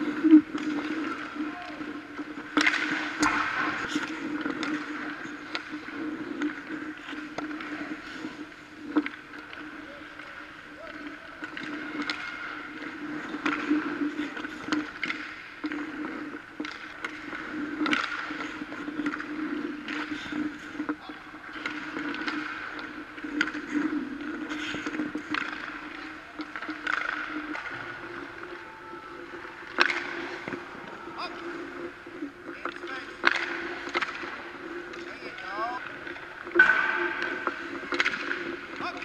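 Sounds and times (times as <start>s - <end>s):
hockey sticks and pucks knocking: 0.0s - 39.0s
skates scraping on ice: 0.0s - 39.0s.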